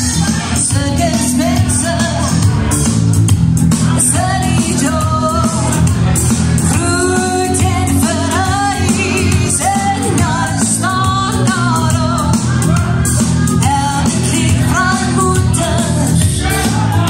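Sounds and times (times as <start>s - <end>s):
woman singing through loudspeaker: 0.0s - 2.5s, 3.9s - 5.8s, 6.7s - 16.6s
amplified backing music: 0.0s - 17.0s.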